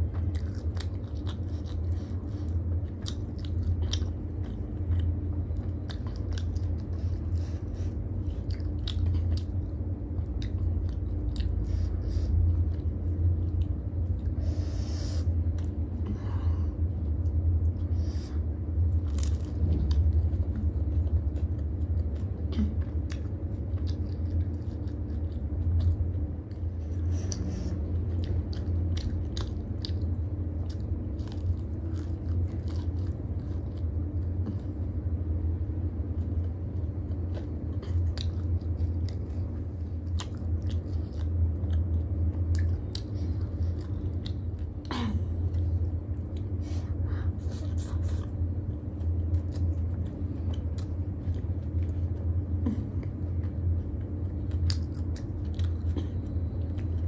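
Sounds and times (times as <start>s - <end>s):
crunchy snack chewing: 0.0s - 16.0s, 16.9s - 57.0s
steady low hum: 0.0s - 57.0s.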